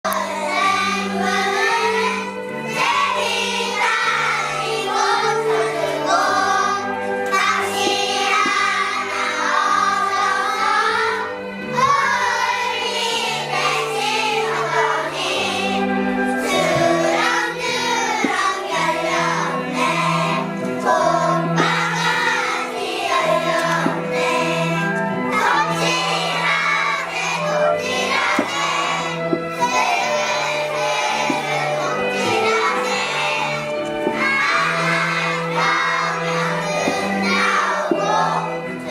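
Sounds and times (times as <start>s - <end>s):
children singing in unison: 0.1s - 38.9s
instrumental accompaniment: 0.1s - 38.9s.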